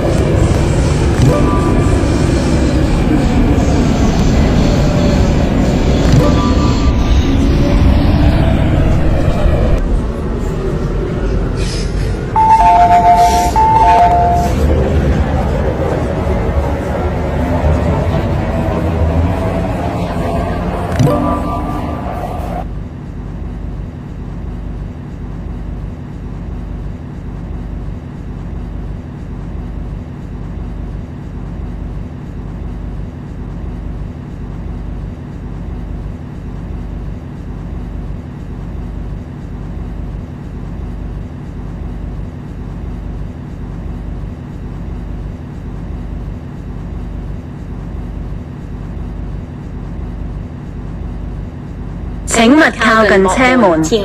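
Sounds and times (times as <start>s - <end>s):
train interior rumble and hum: 0.0s - 54.0s.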